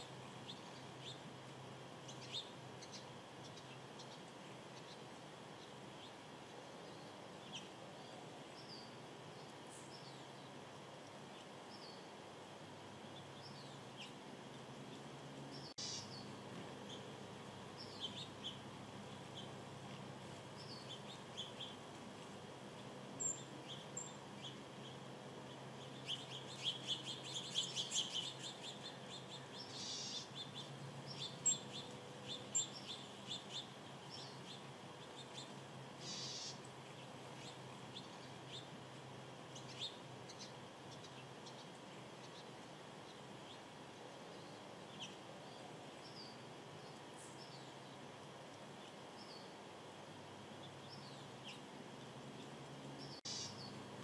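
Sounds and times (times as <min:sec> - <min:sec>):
faint steady hiss: 0:00.0 - 0:54.0
small birds chirping: 0:00.0 - 0:54.0.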